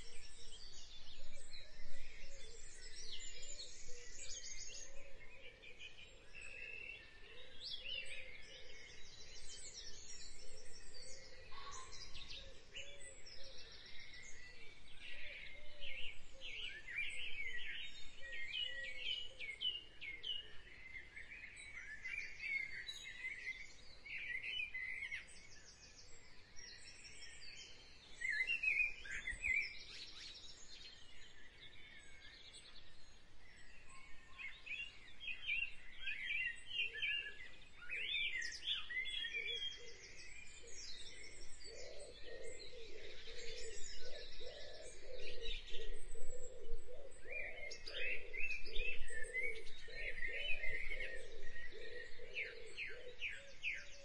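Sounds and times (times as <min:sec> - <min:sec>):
birds chirping and calling: 0:07.7 - 0:54.0.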